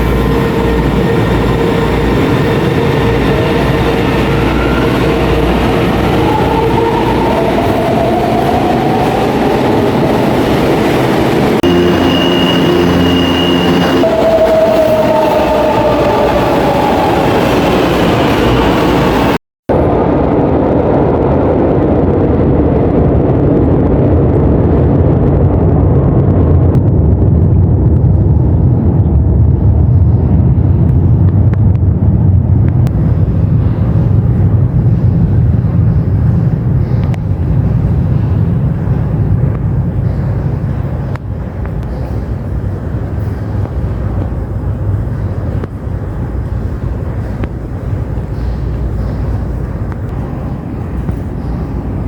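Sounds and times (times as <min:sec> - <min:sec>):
metro train rumbling: 0:00.0 - 0:52.0.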